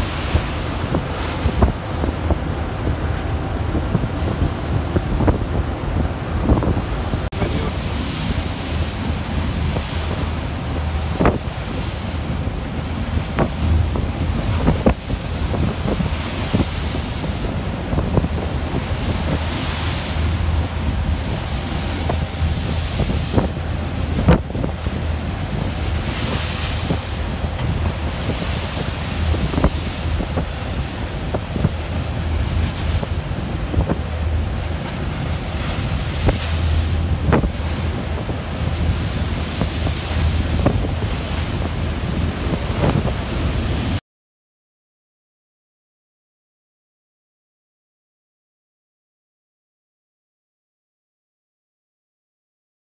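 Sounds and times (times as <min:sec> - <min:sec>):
strong wind buffeting microphone: 0:00.0 - 0:44.0
waves breaking: 0:00.0 - 0:44.0.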